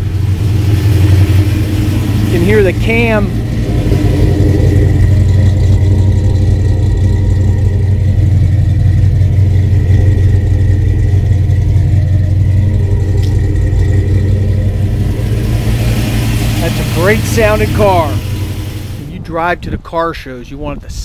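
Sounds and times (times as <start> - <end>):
car engine idling loudly: 0.0 - 19.2.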